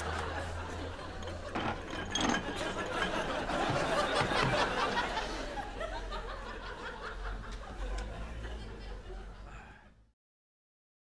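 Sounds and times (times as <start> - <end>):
audience laughing: 0.0 - 9.8.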